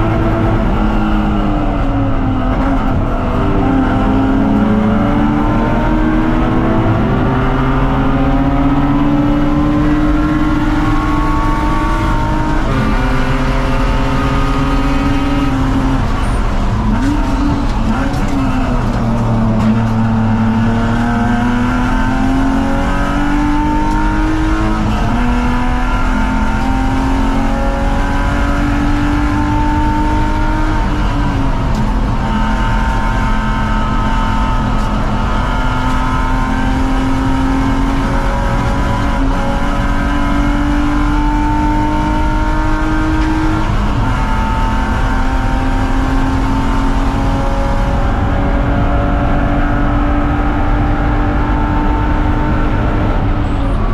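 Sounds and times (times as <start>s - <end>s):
car engine at full throttle: 0.0s - 53.9s.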